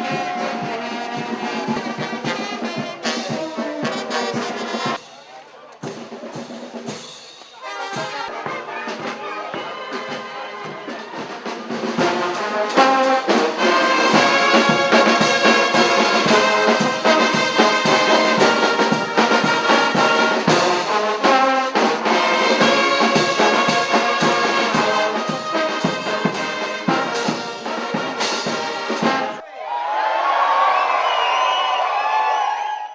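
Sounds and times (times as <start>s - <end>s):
brass band playing: 0.0s - 29.4s
steady beat: 0.0s - 29.4s.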